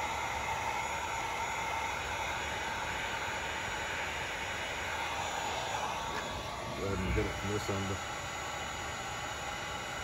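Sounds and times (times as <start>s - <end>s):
faint steady whine: 0.0s - 10.0s
heat gun blowing hiss: 0.0s - 10.0s.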